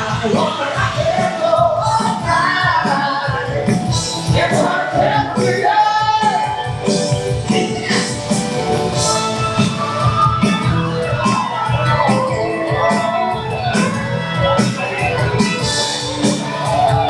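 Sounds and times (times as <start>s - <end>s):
song over sound system: 0.0s - 17.0s.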